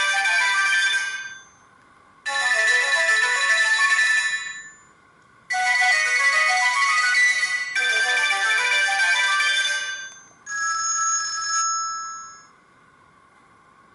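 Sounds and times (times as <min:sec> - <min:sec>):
phone ringtone melody: 0:00.0 - 0:01.6, 0:02.3 - 0:04.9, 0:05.5 - 0:12.5.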